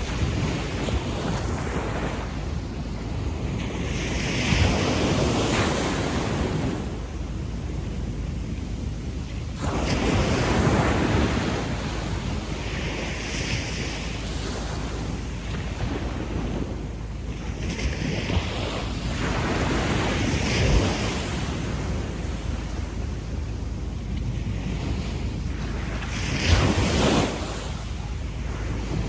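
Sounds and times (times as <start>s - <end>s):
sea waves washing up beach: 0.0s - 29.0s.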